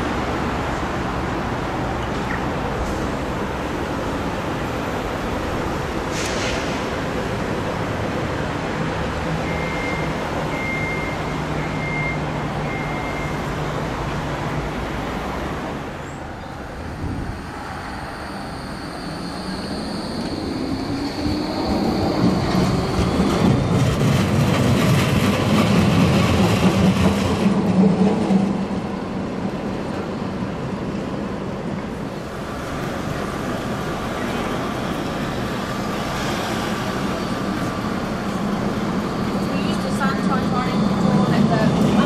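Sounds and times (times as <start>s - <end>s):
street traffic: 0.0s - 42.0s
tram electric drive whine: 6.7s - 42.0s.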